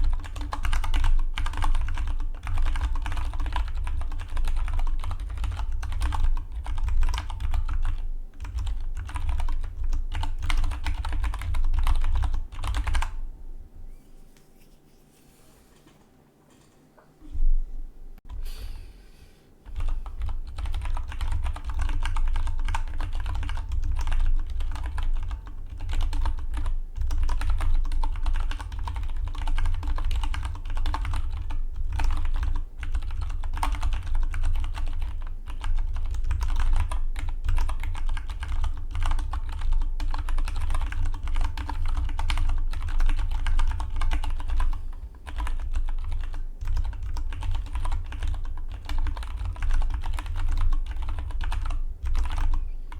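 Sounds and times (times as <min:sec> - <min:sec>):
typing on mechanical keyboard: 0:00.0 - 0:13.1, 0:19.7 - 0:52.7.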